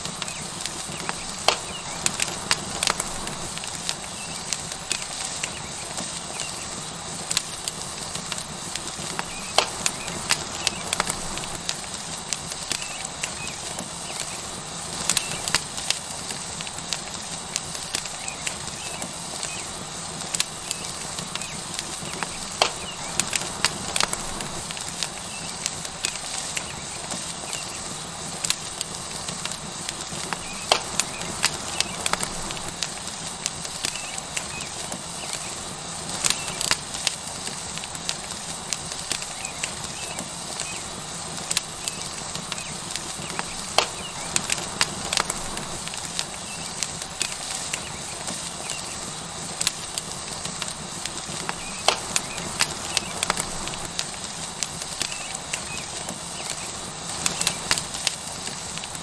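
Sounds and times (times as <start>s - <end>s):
steak sizzling on hot rock: 0.0s - 59.0s
wood fire crackling and popping: 0.0s - 59.0s.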